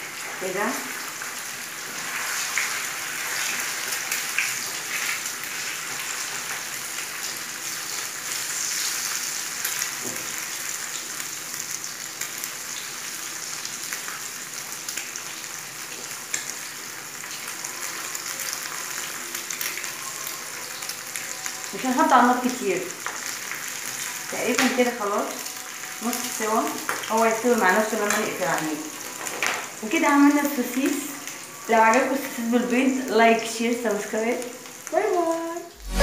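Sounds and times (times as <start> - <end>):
eggs and sausage sizzling in pan: 0.0 - 36.0.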